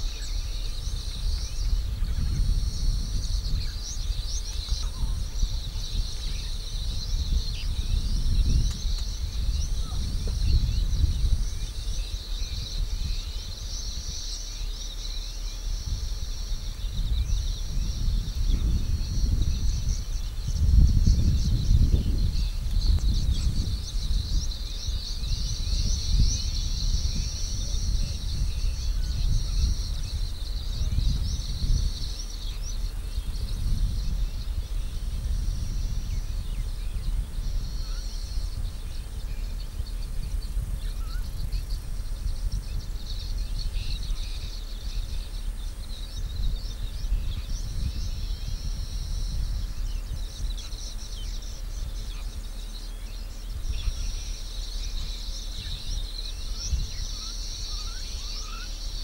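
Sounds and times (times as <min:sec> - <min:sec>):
birds chirping: 0:00.0 - 0:59.0
continuous low rumble: 0:00.0 - 0:59.0
insects chirping: 0:00.0 - 0:59.0.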